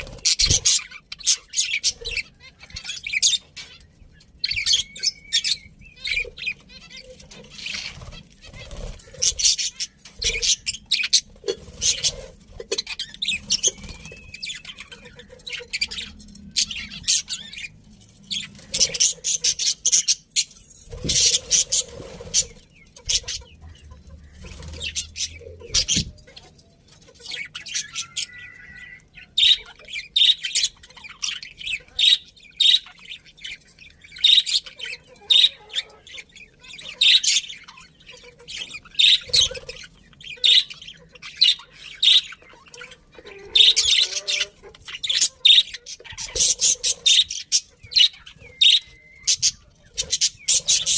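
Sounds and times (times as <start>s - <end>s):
budgerigars chirping and chattering: 0.0s - 50.9s.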